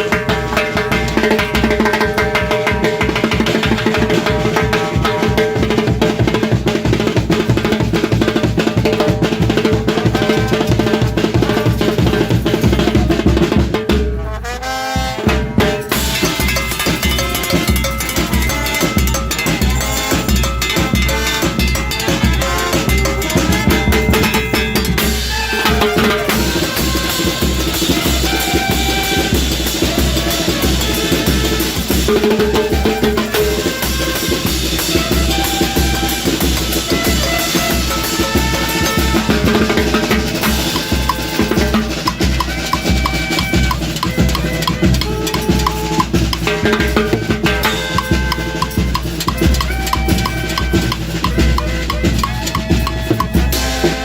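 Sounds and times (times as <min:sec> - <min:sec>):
timbales and drums beat: 0:00.0 - 0:54.0
town band playing: 0:00.0 - 0:54.0.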